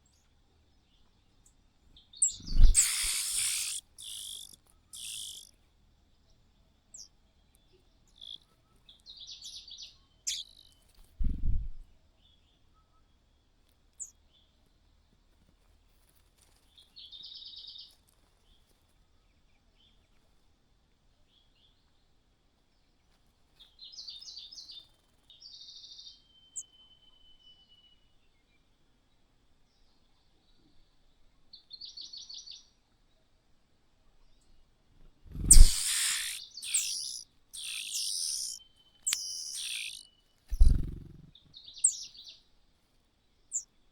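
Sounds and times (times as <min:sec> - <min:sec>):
small bird chirps and trills: 0:00.0 - 0:20.4, 0:22.8 - 0:28.5, 0:29.7 - 0:33.2, 0:34.2 - 0:42.5, 0:43.5 - 0:43.8.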